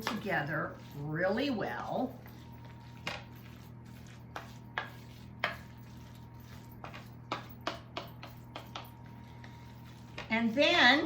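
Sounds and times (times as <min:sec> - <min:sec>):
utensil tapping mixing bowl: 0:00.0 - 0:11.0.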